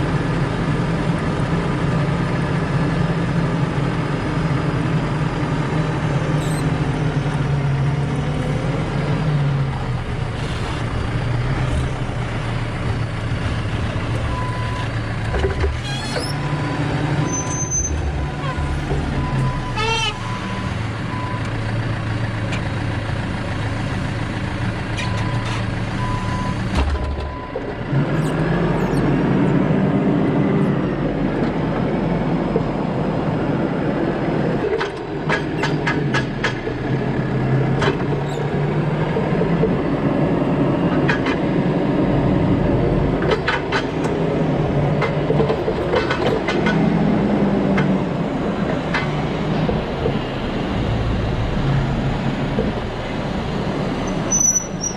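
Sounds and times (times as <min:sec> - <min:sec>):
forklift engine running: 0:00.0 - 0:54.9.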